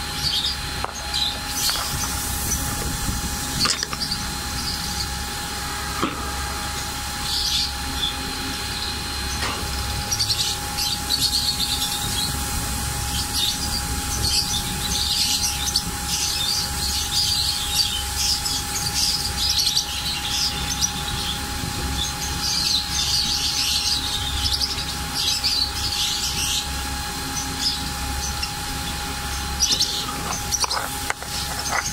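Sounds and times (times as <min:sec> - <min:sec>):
birds chirping: 0:00.0 - 0:31.9
steady low hum: 0:00.0 - 0:31.9.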